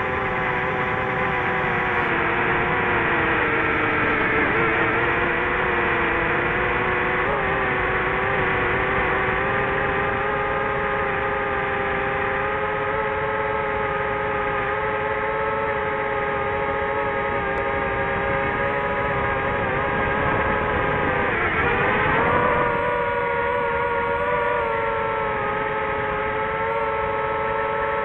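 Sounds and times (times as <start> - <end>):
drone propellers whining: 0.0 - 28.0.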